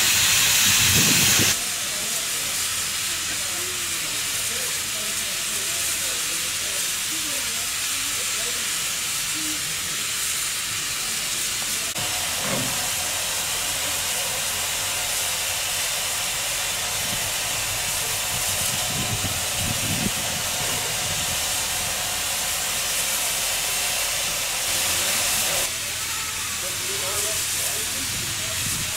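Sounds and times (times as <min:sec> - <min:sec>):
steam hissing: 0:00.0 - 0:28.9.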